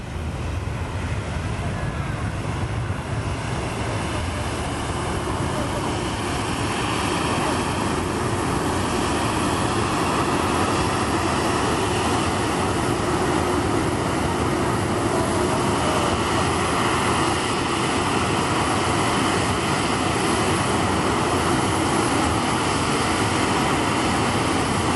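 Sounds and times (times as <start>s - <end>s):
jet airliner taking off: 0.0s - 24.9s.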